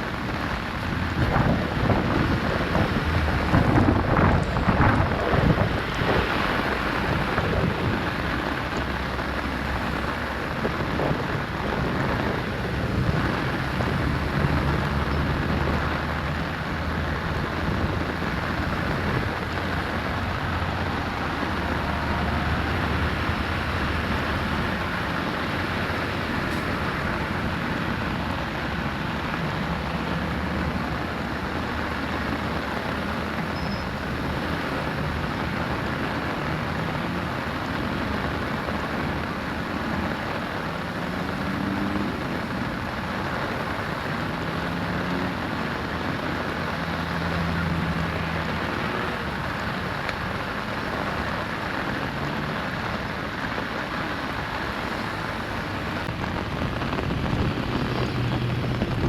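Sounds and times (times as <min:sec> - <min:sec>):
water rushing through a drain: 0:00.0 - 0:59.0.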